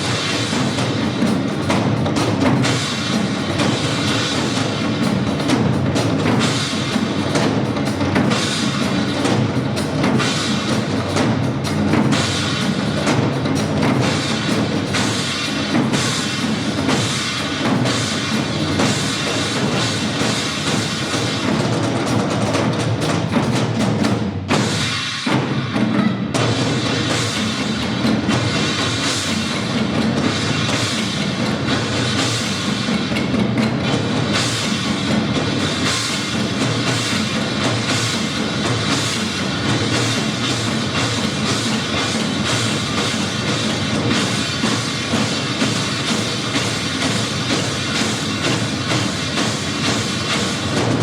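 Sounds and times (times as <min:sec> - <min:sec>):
drums beaten with sticks: 0:00.0 - 0:51.0.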